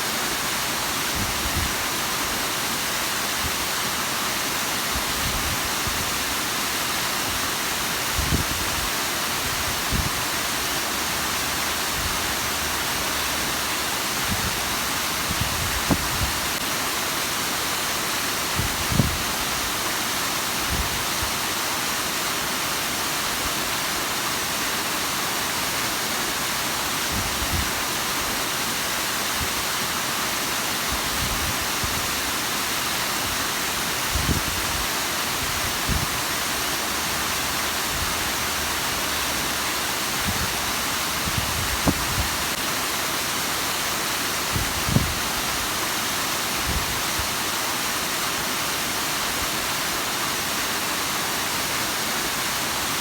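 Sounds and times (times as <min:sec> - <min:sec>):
waterfall splashing: 0:00.0 - 0:53.0.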